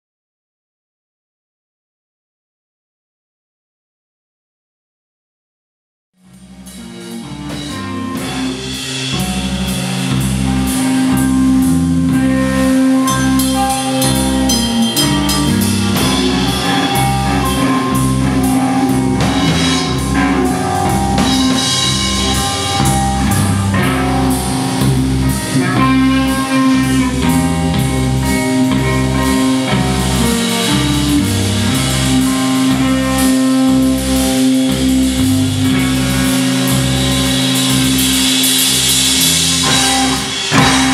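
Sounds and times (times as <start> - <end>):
driving bass line: 6.2 - 40.9
live rock band playing: 6.2 - 40.9
regular drum beat: 6.3 - 40.9.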